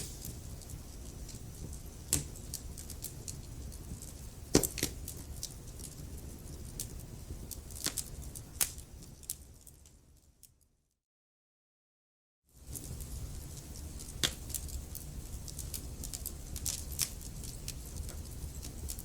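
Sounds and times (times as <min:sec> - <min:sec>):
fire rumbling in fireplace: 0:00.0 - 0:10.6, 0:12.6 - 0:19.0
fire crackling and popping: 0:00.0 - 0:10.7, 0:12.6 - 0:19.0.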